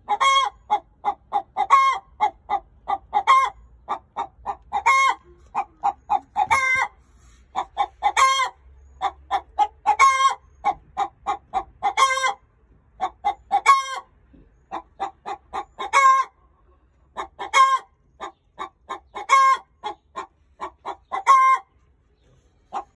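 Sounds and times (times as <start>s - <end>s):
hen cackling: 0.0s - 16.5s, 17.1s - 21.8s, 22.7s - 22.9s.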